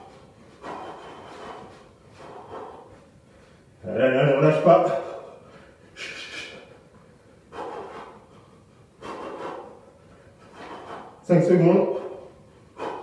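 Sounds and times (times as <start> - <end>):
man breathing hard: 0.0 - 3.8, 4.7 - 13.0.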